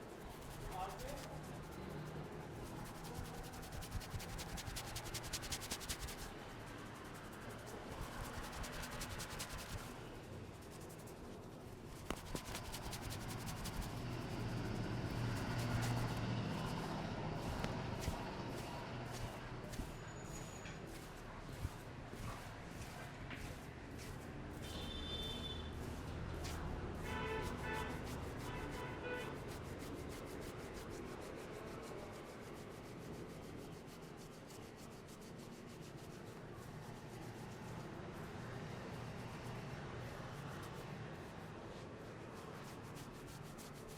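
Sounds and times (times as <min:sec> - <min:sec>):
hands rubbing hair and scalp: 0:00.0 - 0:43.9.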